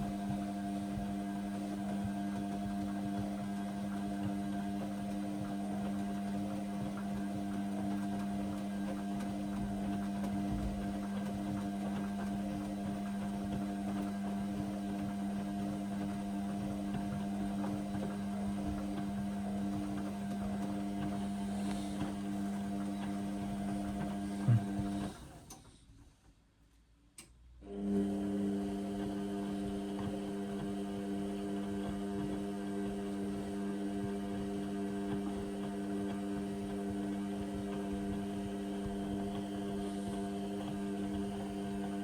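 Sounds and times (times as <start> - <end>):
washing machine humming: 0.0 - 25.8, 27.6 - 42.0.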